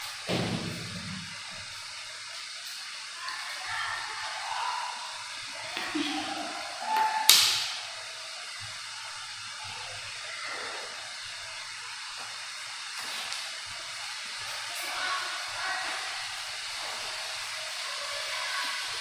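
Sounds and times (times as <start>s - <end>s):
room noise hiss: 0.0s - 19.0s.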